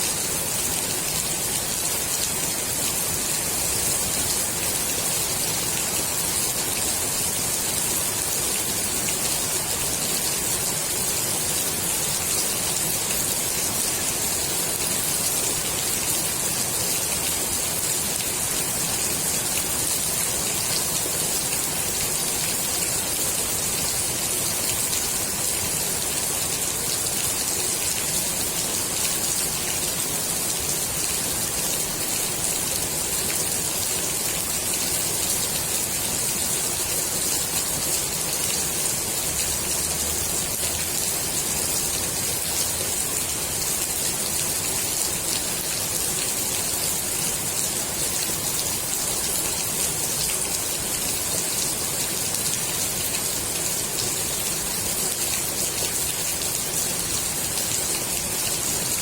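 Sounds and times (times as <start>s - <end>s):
rain falling on pool water: 0.0s - 59.0s.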